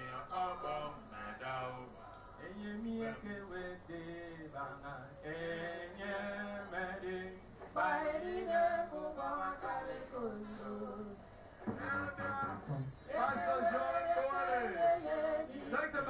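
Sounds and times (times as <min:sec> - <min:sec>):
voices singing a hymn: 0:00.0 - 0:16.0.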